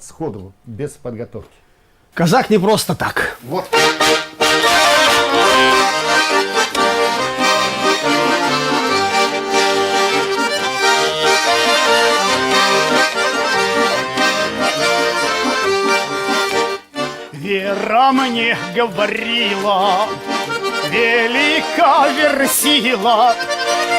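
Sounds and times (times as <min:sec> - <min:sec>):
accordion folk melody: 0:03.2 - 0:23.9.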